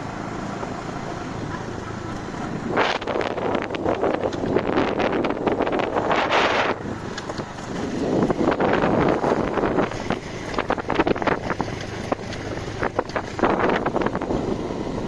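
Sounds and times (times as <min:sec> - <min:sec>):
vehicle running noise: 0:00.0 - 0:15.0
wind buffeting microphone: 0:02.4 - 0:15.0.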